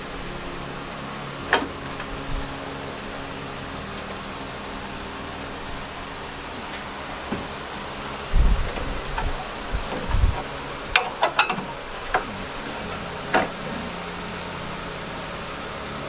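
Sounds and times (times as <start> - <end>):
fan-like hum: 0.0 - 16.0.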